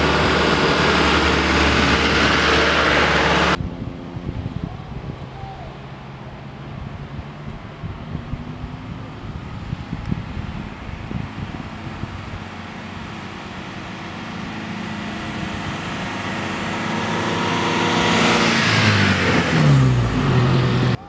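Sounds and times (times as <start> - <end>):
car engine pulling uphill: 0.0 - 21.0.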